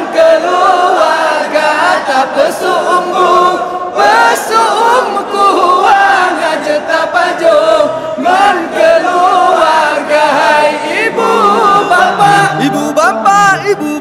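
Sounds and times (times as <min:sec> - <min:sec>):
voices singing chant-like call: 0:00.0 - 0:14.0.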